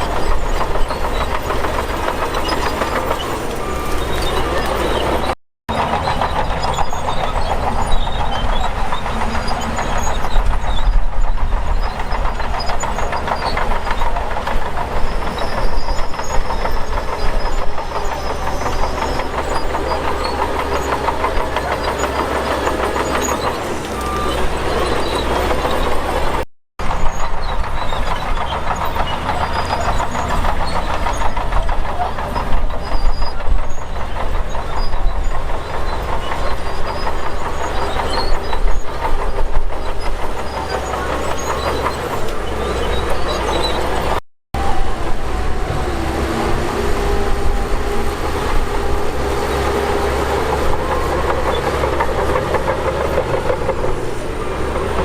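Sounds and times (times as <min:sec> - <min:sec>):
heavy engine under load: 0:00.0 - 0:55.0.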